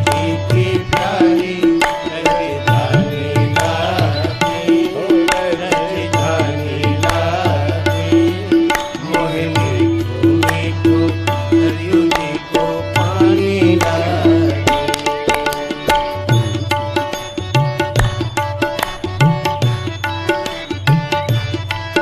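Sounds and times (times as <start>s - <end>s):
tabla rhythm: 0.0s - 22.0s.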